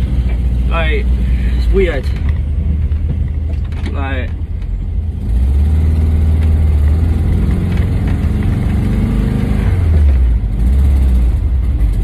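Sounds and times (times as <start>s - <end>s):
van engine droning: 0.0s - 12.0s.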